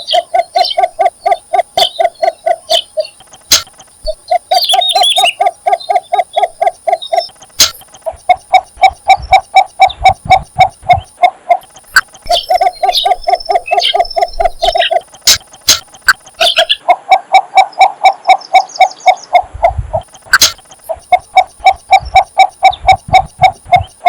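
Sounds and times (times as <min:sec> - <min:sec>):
birds high thin chirping: 0:00.0 - 0:16.9, 0:17.6 - 0:24.0
birds low call notes: 0:00.0 - 0:24.0.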